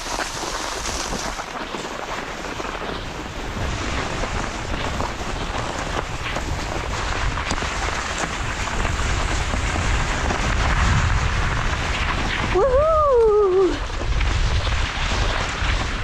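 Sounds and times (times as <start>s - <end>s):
skis hissing over snow: 0.0s - 16.0s
wind buffeting microphone: 0.0s - 16.0s.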